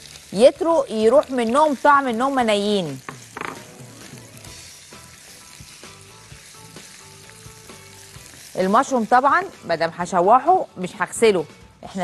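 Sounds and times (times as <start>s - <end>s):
onions and peppers sizzling in oil: 0.0s - 11.2s.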